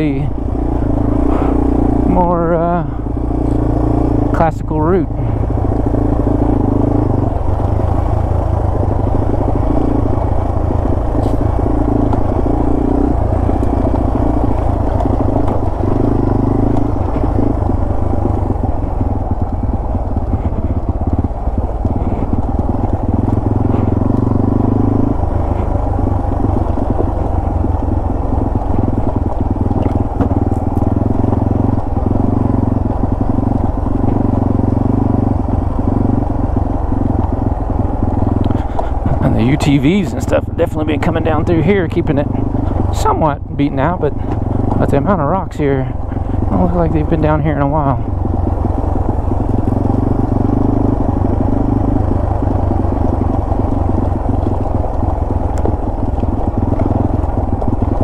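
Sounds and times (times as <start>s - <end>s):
motorcycle engine at low speed: 0.0s - 58.0s.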